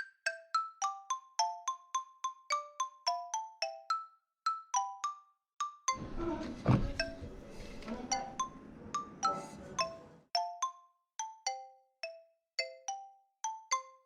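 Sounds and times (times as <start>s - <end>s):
mallet percussion music: 0.0s - 6.0s, 8.1s - 14.0s.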